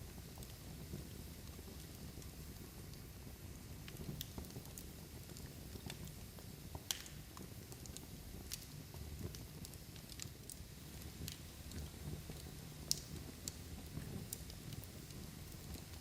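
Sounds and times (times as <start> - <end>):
log fire crackling and popping: 0.0 - 16.0.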